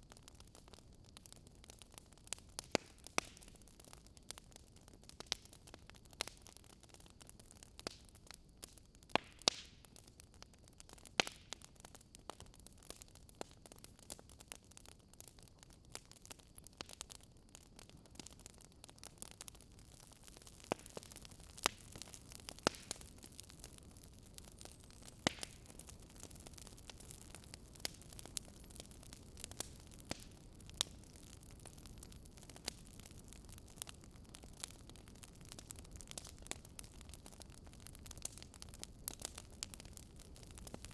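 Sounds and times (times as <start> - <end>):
low steady hiss of fire: 0.0 - 40.9
wood fire crackling and popping: 0.0 - 40.9.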